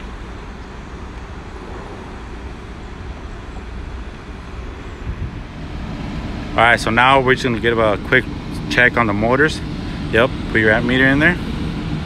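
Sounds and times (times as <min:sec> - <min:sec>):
low urban background rumble: 0:00.0 - 0:12.0.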